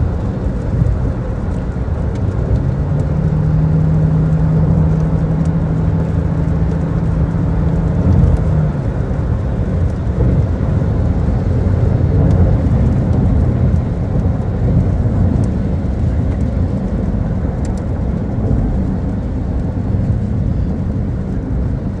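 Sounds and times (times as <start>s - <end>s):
engine hum: 0.0s - 22.0s
tyres on wet road: 0.0s - 22.0s.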